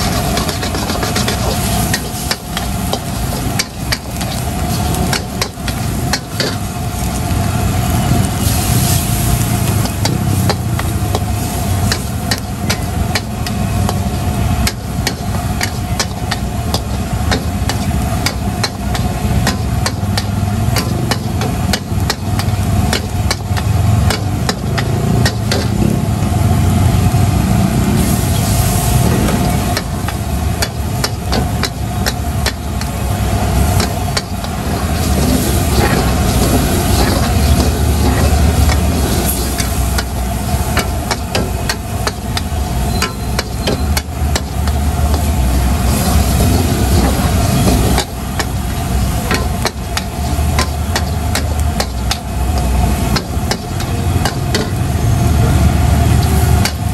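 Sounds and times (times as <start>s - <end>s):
ladle scraping and clanking on wok: 0.0s - 7.3s, 8.2s - 26.2s, 28.0s - 56.9s
gas burner rumble: 0.0s - 56.9s
sizzling: 0.0s - 56.9s.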